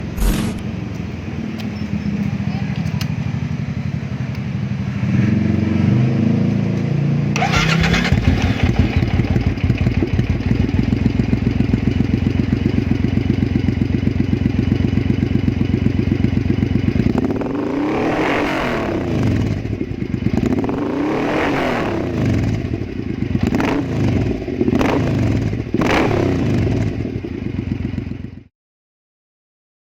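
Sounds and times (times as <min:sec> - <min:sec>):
motorcycle engine idling and revving: 0:00.0 - 0:28.5.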